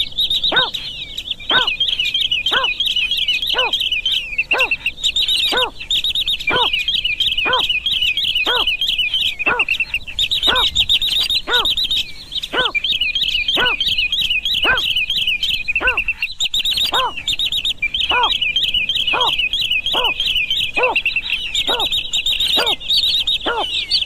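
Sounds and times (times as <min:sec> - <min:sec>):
high twittering bird chirps: 0:00.0 - 0:24.0
low hooting bird call: 0:00.0 - 0:24.0.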